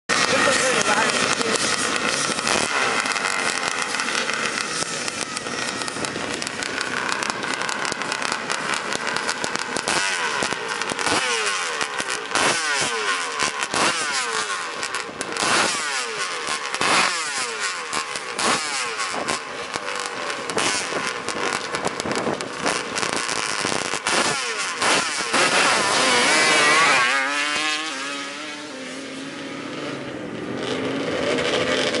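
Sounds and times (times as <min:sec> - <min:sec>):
quad engines revving: 0:00.1 - 0:32.0.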